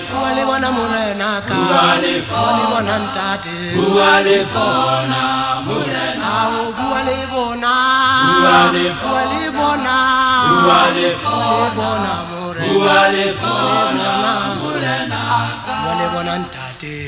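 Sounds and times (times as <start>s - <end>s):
male vocal group singing a hymn: 0.0s - 17.0s.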